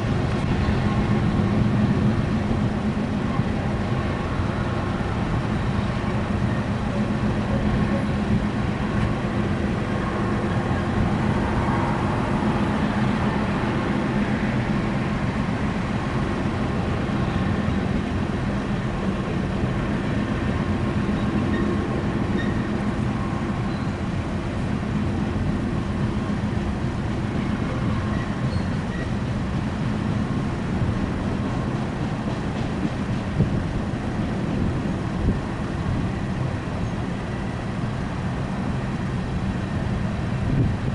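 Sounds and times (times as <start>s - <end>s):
coal train rolling past: 0.0s - 40.9s.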